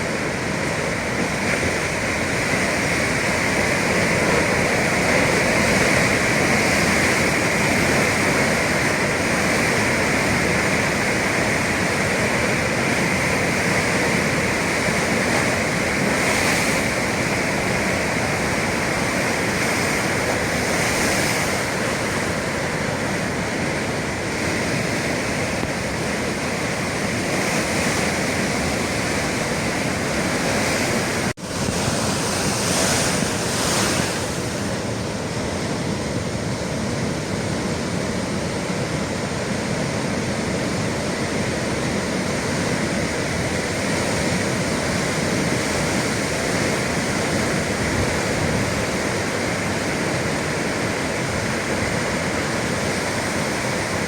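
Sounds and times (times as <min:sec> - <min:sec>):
sea waves breaking on shore: 0:00.0 - 0:54.0
wind on microphone: 0:00.0 - 0:54.0.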